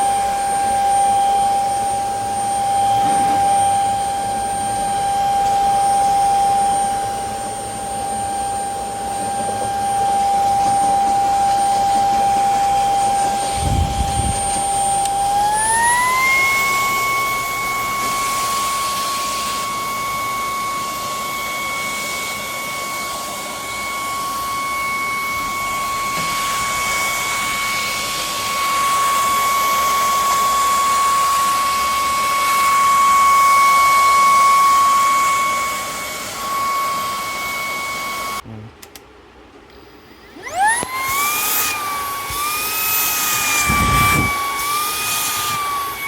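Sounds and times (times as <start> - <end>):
stick vacuum whining: 0.0 - 46.0.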